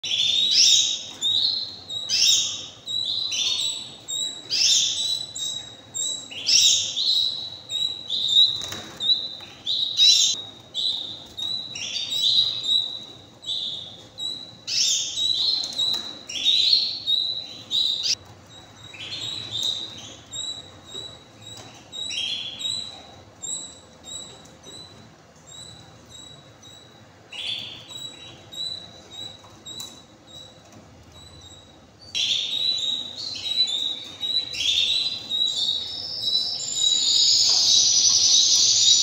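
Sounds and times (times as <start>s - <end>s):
canaries chirping: 0.0s - 39.0s.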